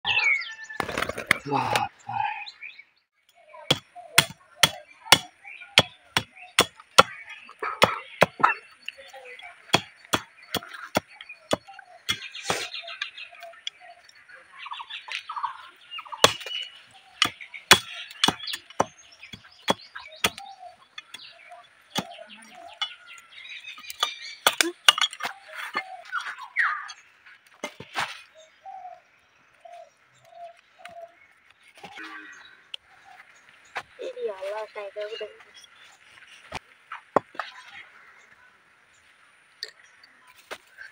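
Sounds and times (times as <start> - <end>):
birds chirping faintly: 0.1 - 40.9.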